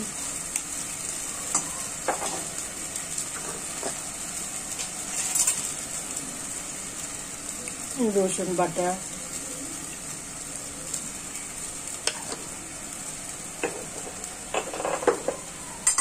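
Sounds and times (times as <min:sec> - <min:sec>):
pot sizzling: 0:00.0 - 0:16.0.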